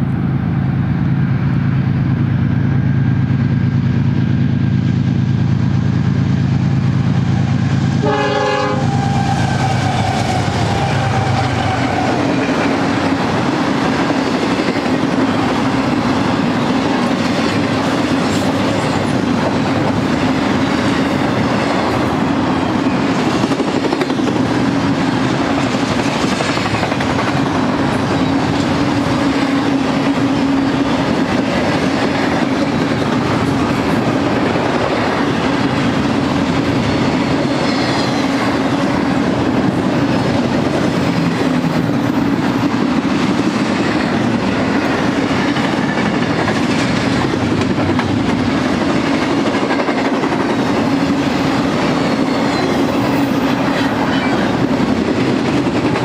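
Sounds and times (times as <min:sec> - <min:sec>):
steel wheels on rail: 0:00.0 - 0:56.0.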